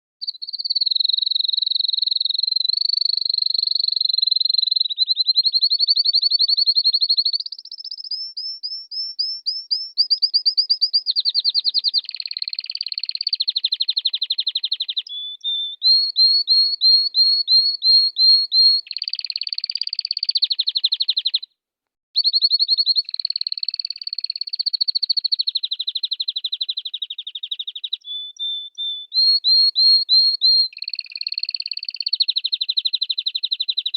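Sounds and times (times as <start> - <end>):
canary singing trills: 0.2 - 21.5, 22.2 - 33.9.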